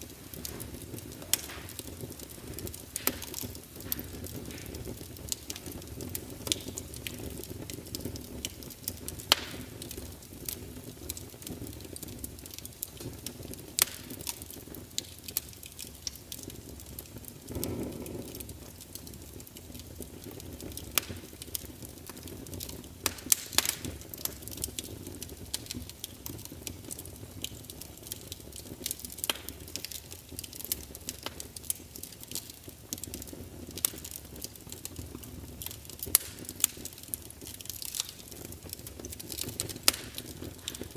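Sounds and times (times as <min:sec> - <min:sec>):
fire popping and snapping: 0:00.0 - 0:40.9
wood fire crackling: 0:00.0 - 0:40.9.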